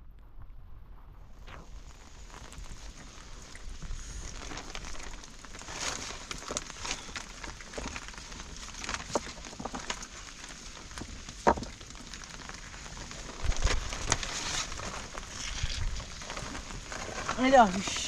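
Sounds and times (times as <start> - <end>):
crackles and knocks: 0.0 - 18.0
steady rain: 1.6 - 18.0.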